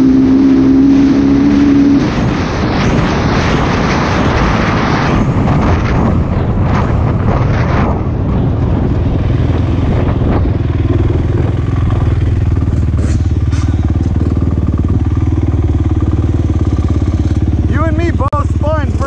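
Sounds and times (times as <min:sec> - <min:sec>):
quad bike engine running: 0:00.0 - 0:19.0
wind rush on microphone: 0:00.0 - 0:19.0.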